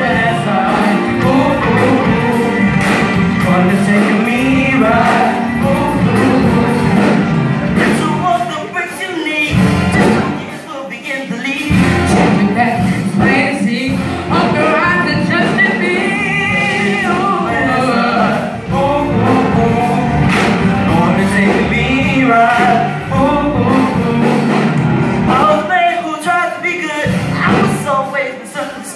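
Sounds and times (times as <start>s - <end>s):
gospel choir style singing: 0.0s - 26.4s.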